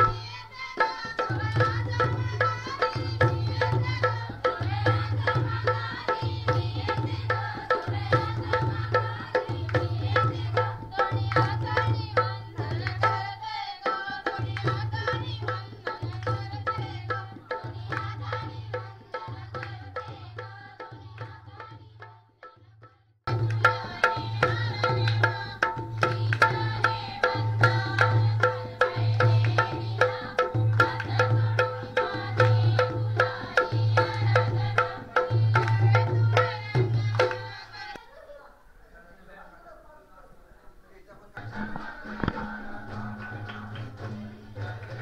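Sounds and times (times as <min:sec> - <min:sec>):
hand-played barrel drum beat: 0:00.0 - 0:22.2, 0:23.3 - 0:37.9, 0:41.4 - 0:45.0
group singing: 0:00.0 - 0:38.4, 0:41.3 - 0:45.0.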